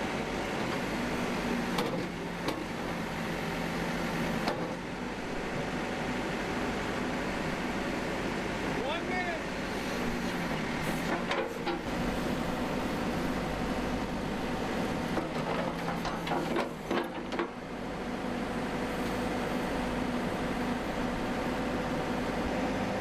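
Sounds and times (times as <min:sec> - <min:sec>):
backhoe engine running: 0:00.0 - 0:23.0.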